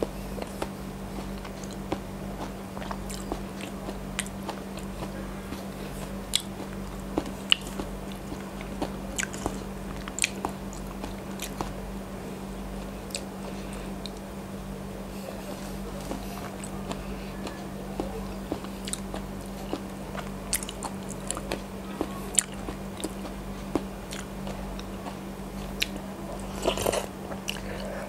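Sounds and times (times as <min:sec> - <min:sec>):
steady low hum: 0:00.0 - 0:28.0
wet chewing and mouth smacks: 0:00.4 - 0:11.8, 0:12.8 - 0:14.2, 0:15.9 - 0:27.9.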